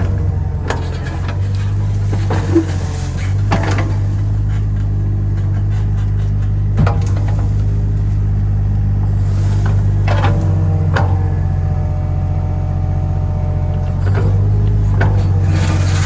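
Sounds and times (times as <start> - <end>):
small diesel engine running: 0.0 - 16.0.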